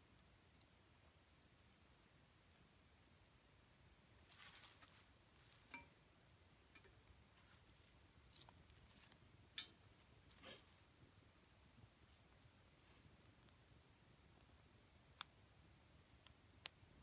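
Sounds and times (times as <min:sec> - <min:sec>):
twig fire crackling and popping: 0:00.0 - 0:10.4, 0:11.6 - 0:17.0.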